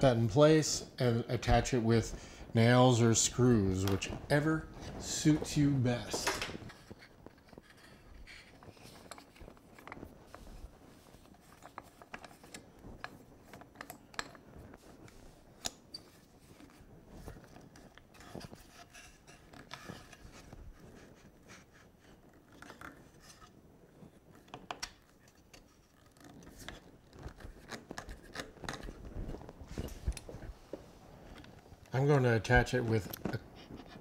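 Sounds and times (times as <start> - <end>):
wooden clamp being handled: 3.0 - 34.0
plywood clicks and scrapes: 3.8 - 32.0.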